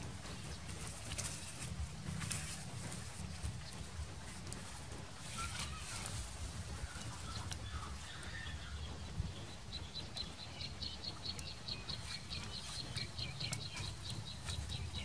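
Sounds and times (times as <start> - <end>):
low outdoor rumble: 0.0 - 15.0
small bird chirping: 0.2 - 15.0.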